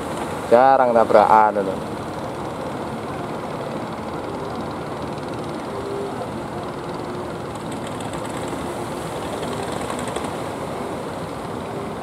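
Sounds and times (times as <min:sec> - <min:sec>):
boat engines running: 0:00.0 - 0:12.0
waves washing: 0:00.0 - 0:12.0.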